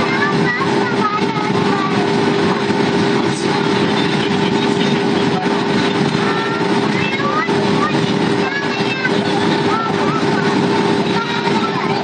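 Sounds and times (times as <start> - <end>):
air rushing over fuselage: 0.0 - 12.0
constant cabin hum: 0.0 - 12.0
jet engines droning: 0.0 - 12.0.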